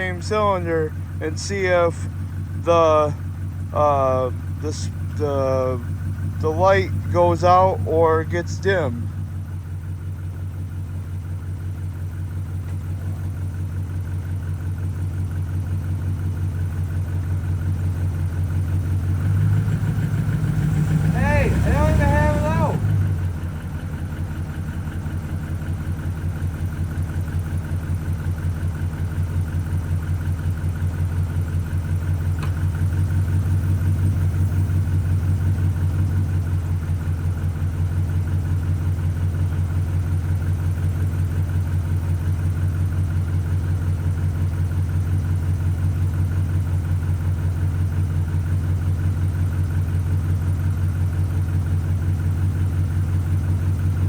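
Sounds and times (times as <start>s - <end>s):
misfiring engine idling: 0.0s - 54.0s.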